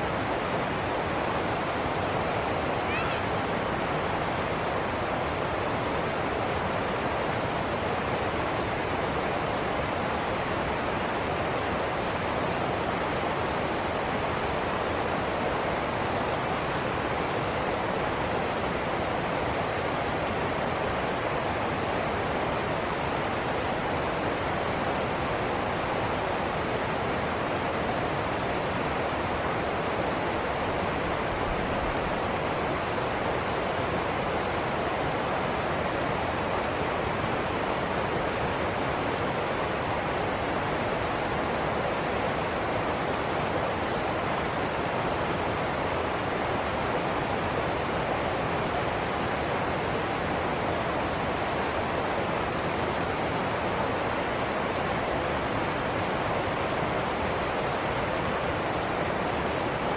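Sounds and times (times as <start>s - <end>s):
river water rushing over rocks: 0.0s - 59.9s.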